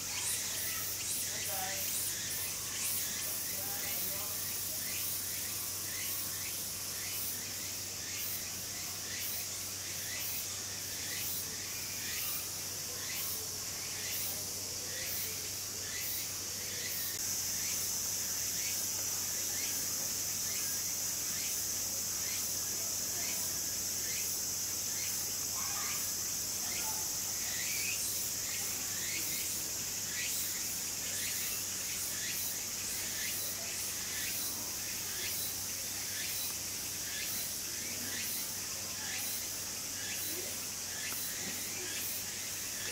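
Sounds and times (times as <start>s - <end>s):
insect chirps: 0.0s - 42.9s
insects buzzing: 0.0s - 42.9s.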